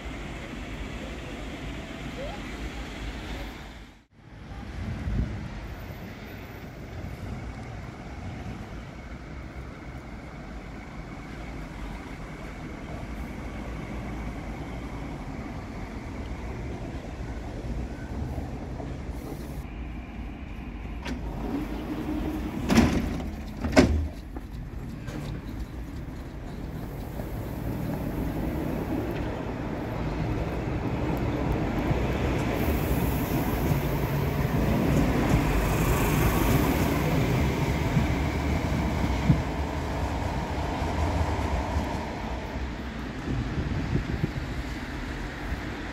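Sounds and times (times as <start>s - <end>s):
train rumbling into station: 0.0s - 45.9s.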